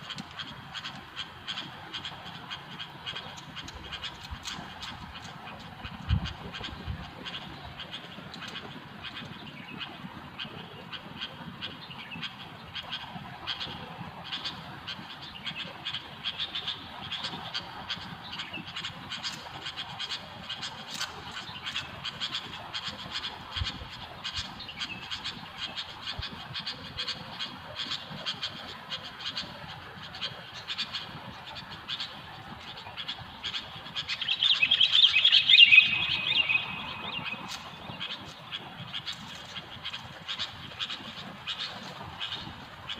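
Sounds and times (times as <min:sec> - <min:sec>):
birds chattering calls: 0:00.0 - 0:42.9.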